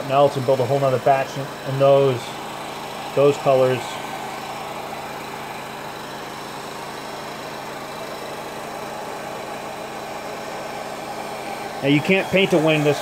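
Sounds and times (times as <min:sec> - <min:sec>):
air dryer blowing: 0:00.0 - 0:13.0.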